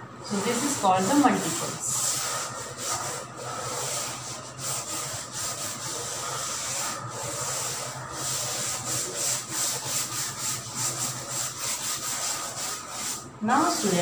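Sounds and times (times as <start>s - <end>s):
duster rubbing on chalkboard: 0.3s - 14.0s.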